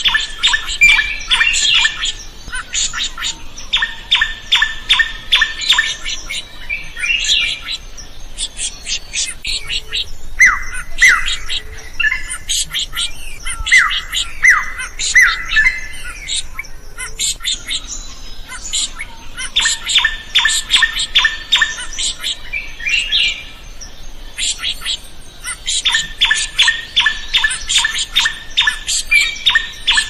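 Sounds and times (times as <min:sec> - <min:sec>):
bird chirping and whistling: 0:00.0 - 0:30.0.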